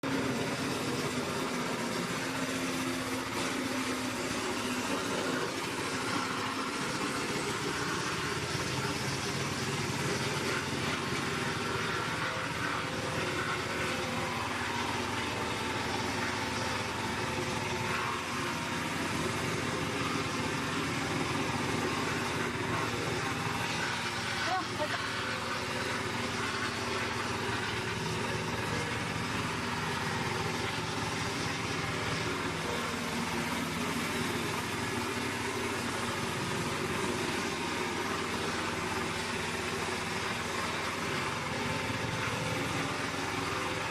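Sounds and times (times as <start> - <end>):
wood chipper engine running: 0.0 - 43.9.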